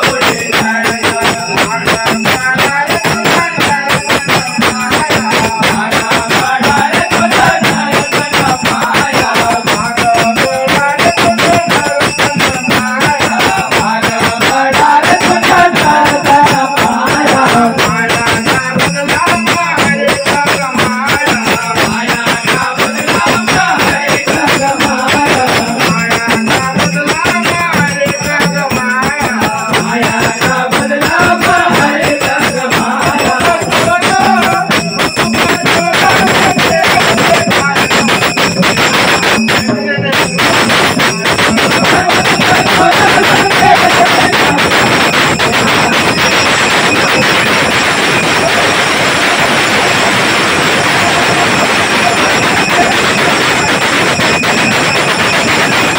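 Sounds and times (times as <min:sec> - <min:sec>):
hand drum playing: 0:00.0 - 0:55.8
jingling hand percussion: 0:00.0 - 0:55.9
person singing folk melody: 0:00.0 - 0:55.9.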